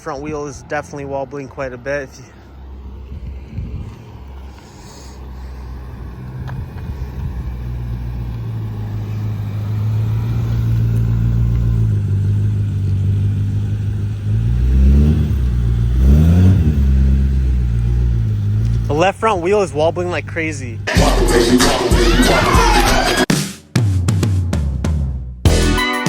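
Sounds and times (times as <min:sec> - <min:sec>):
car engine idling and revving: 0:00.0 - 0:23.1.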